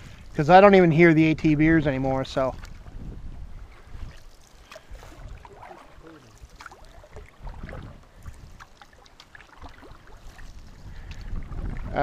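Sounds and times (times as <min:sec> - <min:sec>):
paddles splashing in water: 0:02.2 - 0:12.0
drips against hull: 0:02.3 - 0:12.0.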